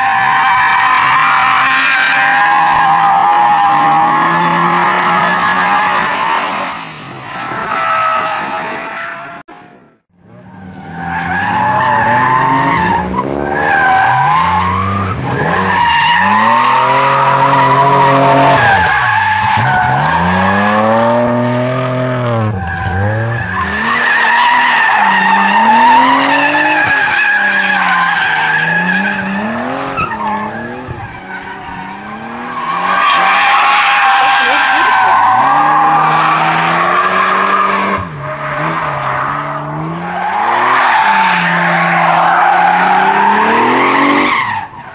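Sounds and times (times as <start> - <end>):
car engines revving: 0.0 - 44.9
high tyre squeal: 0.0 - 44.9.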